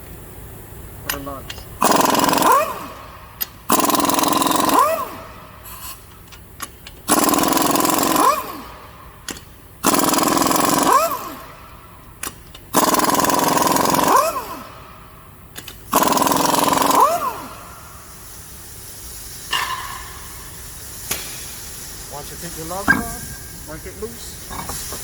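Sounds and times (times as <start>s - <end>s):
impact wrench bursts: 1.1s - 9.1s, 9.8s - 18.6s, 19.5s - 25.0s.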